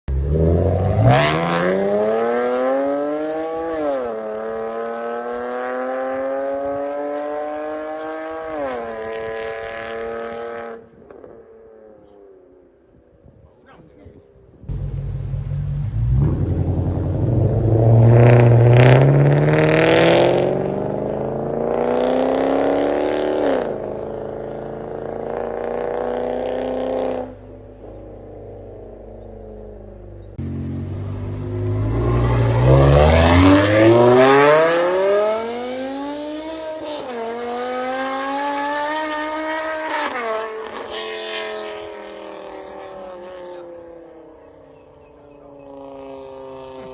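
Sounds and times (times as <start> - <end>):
car engine accelerating hard: 0.1 - 10.8, 14.7 - 28.0, 28.6 - 46.9.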